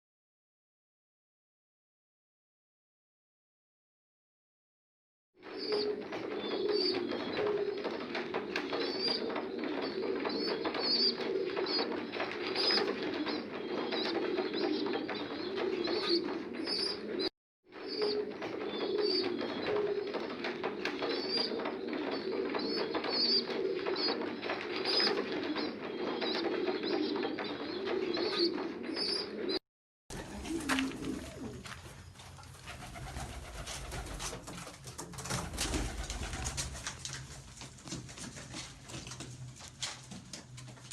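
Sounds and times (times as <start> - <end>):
pigeons cooing: 5.4 - 39.6.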